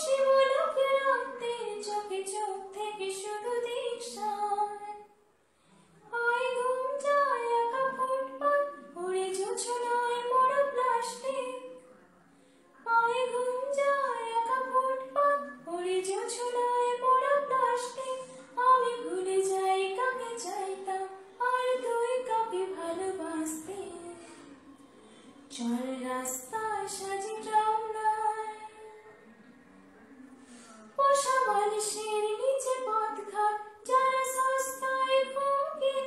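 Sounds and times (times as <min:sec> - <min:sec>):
woman singing unaccompanied: 0:00.0 - 0:05.1, 0:06.1 - 0:11.8, 0:12.9 - 0:24.4, 0:25.5 - 0:28.9, 0:31.0 - 0:36.0.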